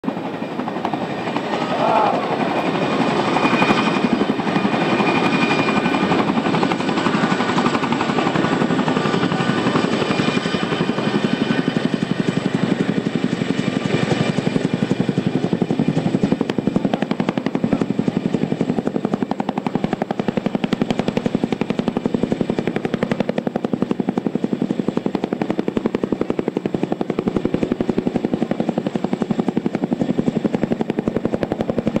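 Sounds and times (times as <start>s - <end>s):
helicopter rotors beating: 0.0s - 32.0s.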